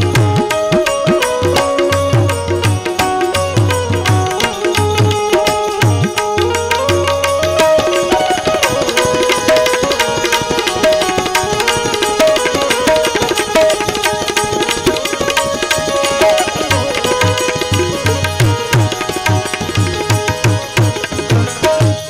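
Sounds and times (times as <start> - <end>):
harmonium melody: 0.0 - 22.0
tabla rhythm: 0.0 - 22.0.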